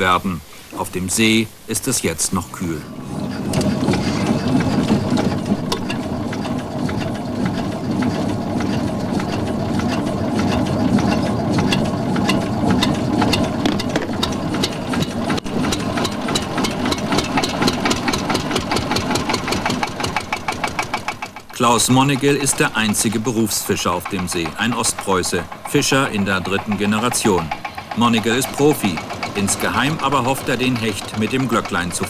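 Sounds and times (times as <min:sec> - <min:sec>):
boat motor knocking: 0:02.9 - 0:32.0.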